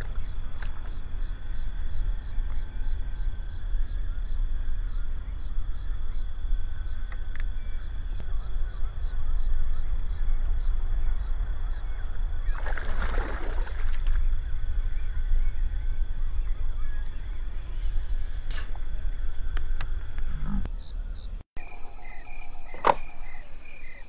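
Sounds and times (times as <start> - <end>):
low rumble: 0.0 - 21.0
insects chirping: 0.0 - 24.0
pulsing insect chorus: 0.0 - 24.0.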